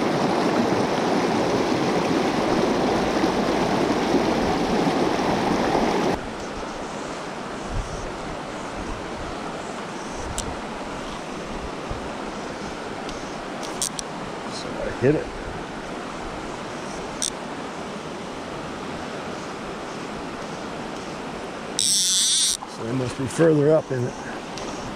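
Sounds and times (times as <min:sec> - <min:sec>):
stream rushing over rocks: 0:00.0 - 0:21.8.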